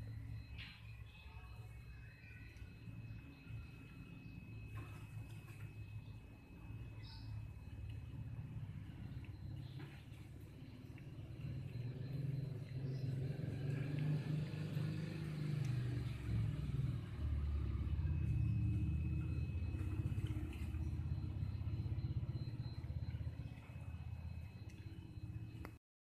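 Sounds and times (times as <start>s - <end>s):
engine rumbling: 0.0s - 25.8s.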